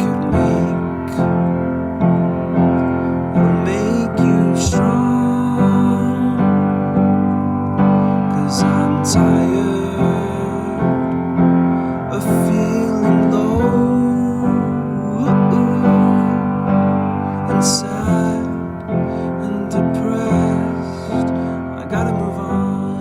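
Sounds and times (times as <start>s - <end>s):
instrumental piano music: 0.0s - 23.0s.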